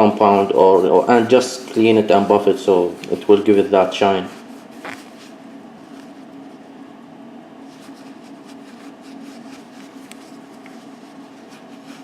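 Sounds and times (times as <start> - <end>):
soft rubbing strokes: 0.0 - 6.9, 7.5 - 12.0
mechanical hum: 0.0 - 12.0.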